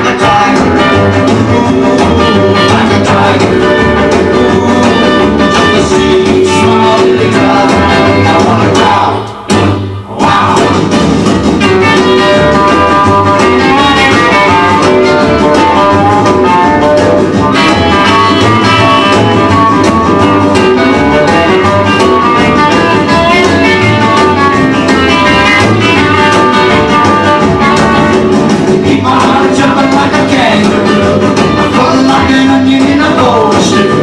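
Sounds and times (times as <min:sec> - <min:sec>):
guitar music over steady beat: 0:00.0 - 0:34.0.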